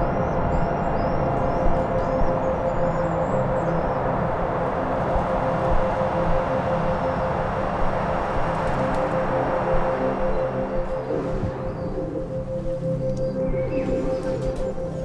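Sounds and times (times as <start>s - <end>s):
rumbling noisy drone: 0.0s - 15.0s.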